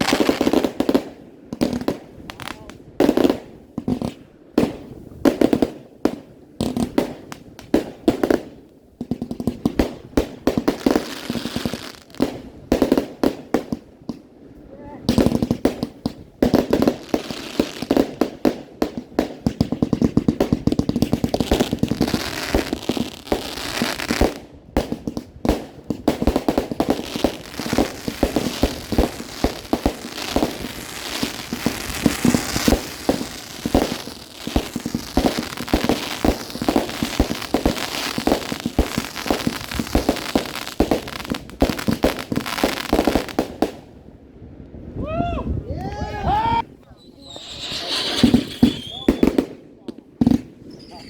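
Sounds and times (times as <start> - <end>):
fireworks bangs and crackles: 0.0 - 14.3, 15.0 - 44.0, 46.9 - 51.0.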